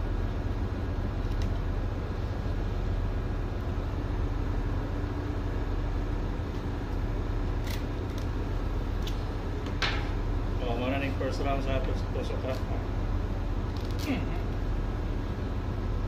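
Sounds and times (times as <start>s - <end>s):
faint steady hum: 0.0s - 16.0s
low mechanical drone: 0.0s - 16.0s.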